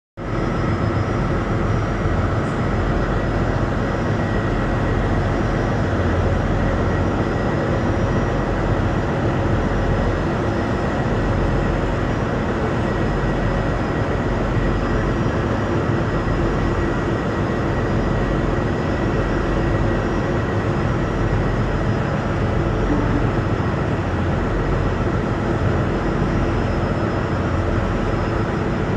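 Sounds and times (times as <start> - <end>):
heavy machinery low drone: 0.2 - 28.9.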